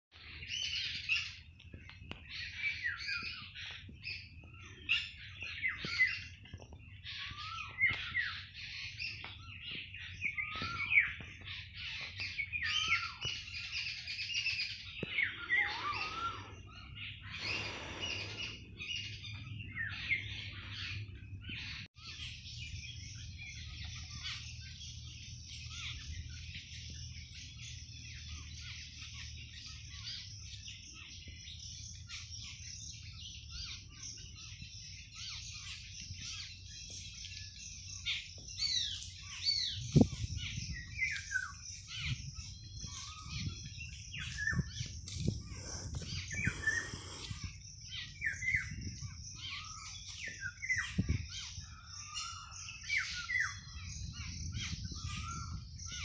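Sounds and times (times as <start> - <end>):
birds chirping and calling: 0.1 - 56.0.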